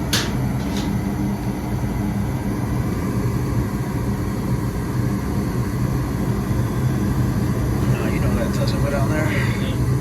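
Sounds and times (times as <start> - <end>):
blower air rushing: 0.0 - 10.0
furnace low hum: 0.0 - 10.0.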